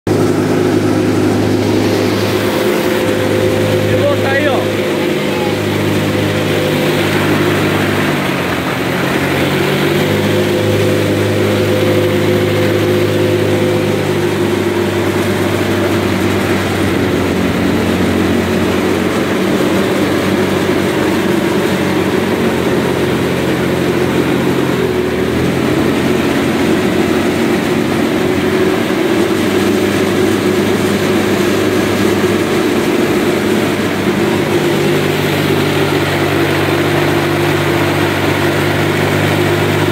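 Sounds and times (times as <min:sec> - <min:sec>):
boat engine running: 0:00.0 - 0:39.9
water rushing: 0:00.1 - 0:39.9.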